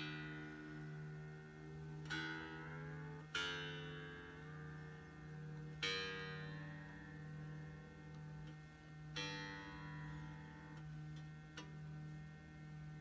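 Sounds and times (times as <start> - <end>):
fretless bass string plucked: 0.0 - 13.0
steady low hum: 0.0 - 13.0.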